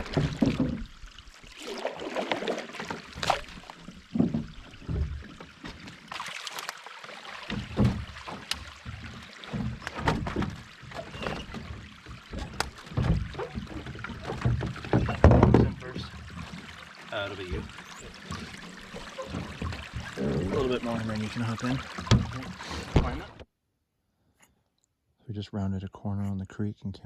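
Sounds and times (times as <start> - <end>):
paddles splashing in water: 0.0 - 23.4.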